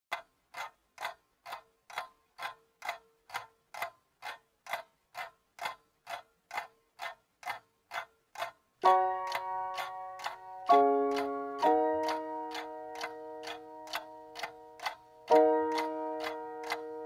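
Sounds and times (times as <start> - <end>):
clock ticking: 0.1 - 17.0.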